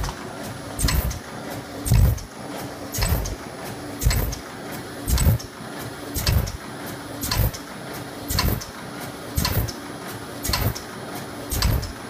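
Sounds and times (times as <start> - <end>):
machine thumping and clicking: 0.0 - 12.0.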